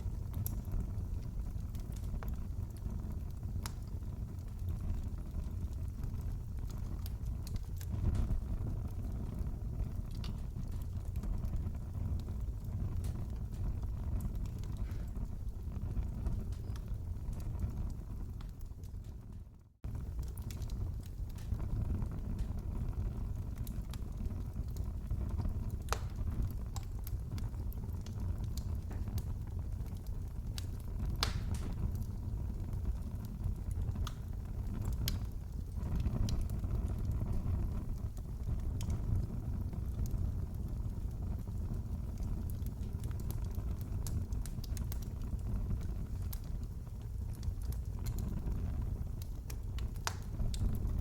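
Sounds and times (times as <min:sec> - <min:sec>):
fireplace fire crackling and popping: 0:00.0 - 0:51.0.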